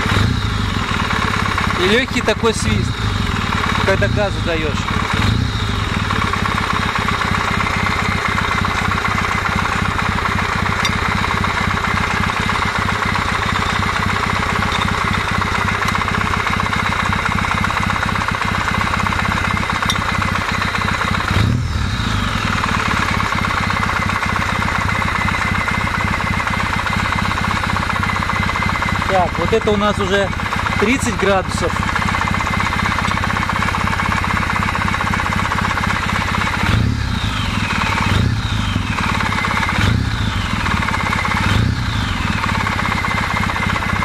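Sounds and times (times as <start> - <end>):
motorcycle engine idling: 0.0 - 44.0
engine throttle blip: 1.2 - 44.0.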